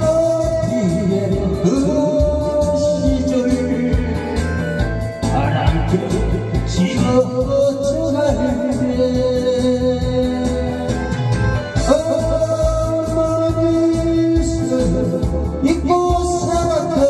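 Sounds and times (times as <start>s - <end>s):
karaoke backing music: 0.0s - 17.0s
man singing into a microphone: 0.0s - 17.0s.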